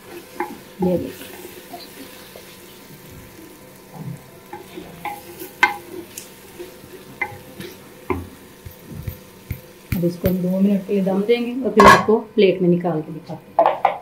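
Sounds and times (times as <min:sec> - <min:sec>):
frying sizzle: 0:00.0 - 0:12.2.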